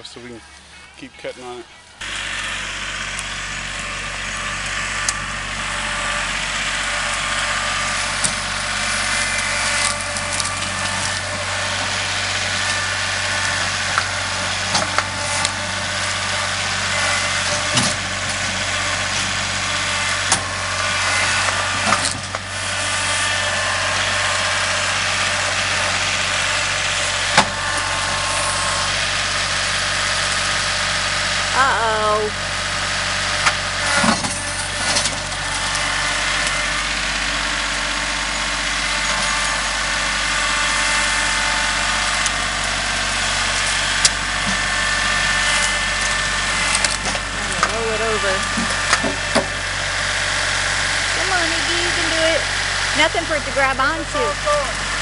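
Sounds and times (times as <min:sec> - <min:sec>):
tractor engine drone: 0:00.0 - 0:55.0.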